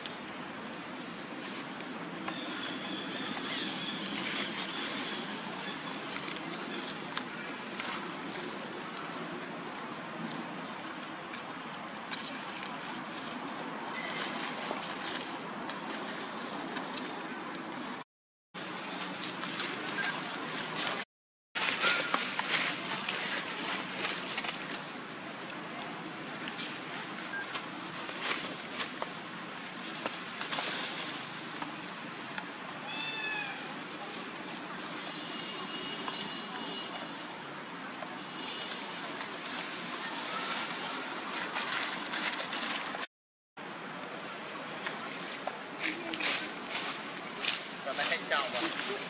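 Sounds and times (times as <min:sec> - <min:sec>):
dry leaves crackling: 0:01.3 - 0:17.4, 0:21.6 - 0:43.1, 0:45.1 - 0:49.0.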